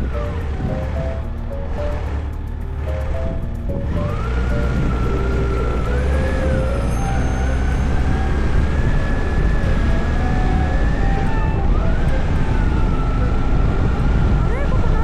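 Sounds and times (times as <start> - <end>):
thin wavering tone: 0.0 - 14.9
motorcycle engine rumble: 0.0 - 15.0
wind buffeting microphone: 0.0 - 15.0.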